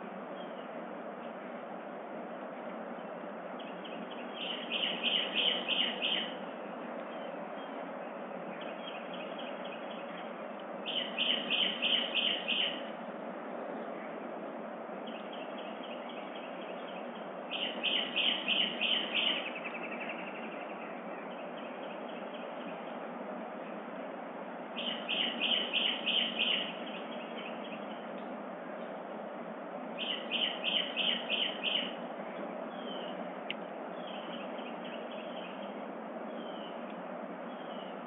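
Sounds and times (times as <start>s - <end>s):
songbird singing: 0.0s - 38.0s
steady outdoor hiss: 0.0s - 38.0s.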